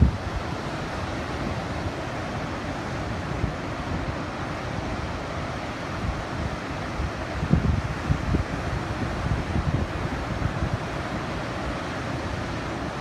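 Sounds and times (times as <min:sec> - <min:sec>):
surf breaking on a beach: 0:00.0 - 0:13.0
wind rumbling on microphone: 0:00.0 - 0:13.0.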